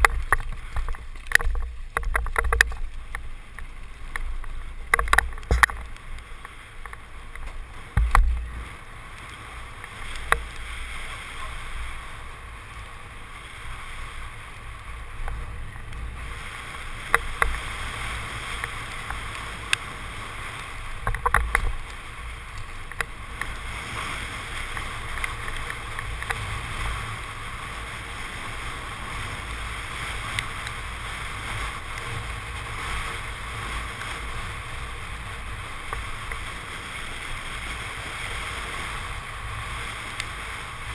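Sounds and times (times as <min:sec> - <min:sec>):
tyre rumble on paved road: 0:00.0 - 0:40.9
wind rushing over microphone: 0:00.0 - 0:40.9.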